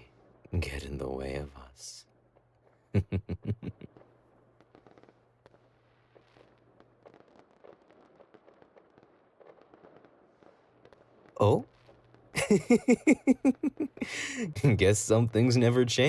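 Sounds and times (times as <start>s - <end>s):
faint crackling: 1.9s - 16.0s
fireworks bangs: 3.0s - 16.0s.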